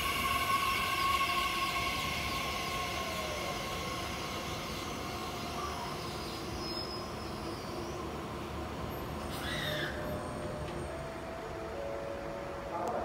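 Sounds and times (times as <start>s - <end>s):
electric train braking: 0.0s - 11.2s
high tones from train: 0.0s - 13.0s.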